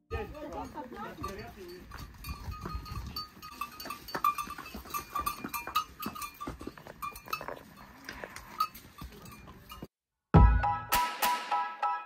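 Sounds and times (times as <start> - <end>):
animal bells clanking: 0.1 - 9.9
hooves on stony path: 0.1 - 9.9.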